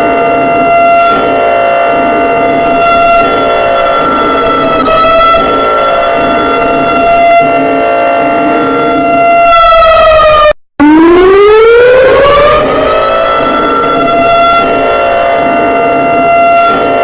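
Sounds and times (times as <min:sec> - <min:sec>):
emergency alert siren: 0:00.0 - 0:17.0.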